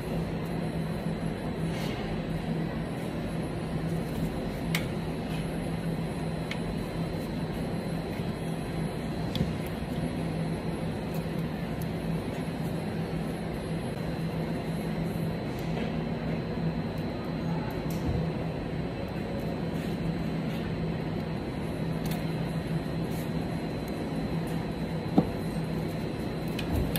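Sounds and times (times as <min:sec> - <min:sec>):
machinery humming: 0:00.0 - 0:26.9.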